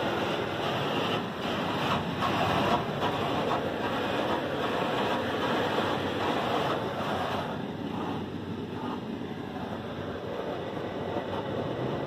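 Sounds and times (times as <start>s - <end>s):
car wash water spraying: 0.0s - 12.0s.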